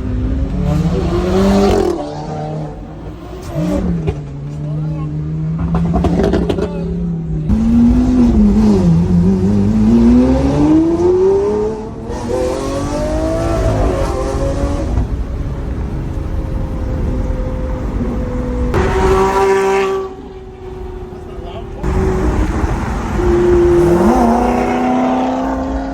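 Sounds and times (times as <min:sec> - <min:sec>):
car engine revving and accelerating: 0:00.0 - 0:25.9.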